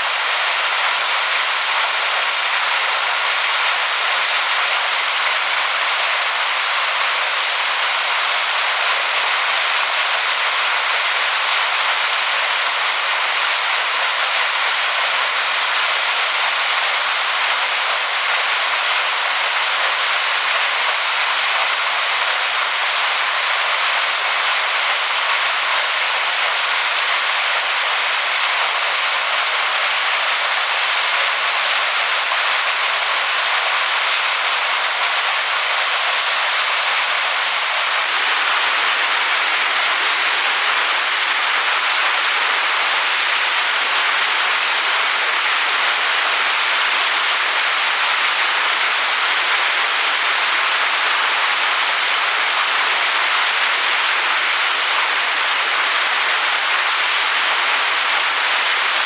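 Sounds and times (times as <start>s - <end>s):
waterfall pouring onto rocks: 0.0s - 59.0s.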